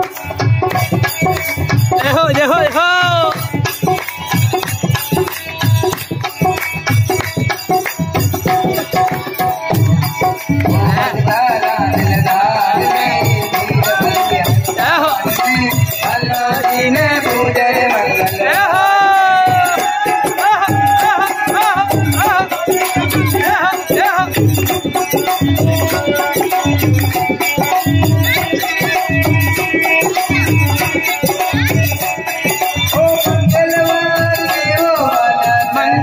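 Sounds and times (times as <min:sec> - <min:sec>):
hand drum beat: 0:00.0 - 0:36.0
harmonium melody: 0:00.0 - 0:36.0
jingling percussion: 0:00.0 - 0:36.0
person singing: 0:00.0 - 0:36.0.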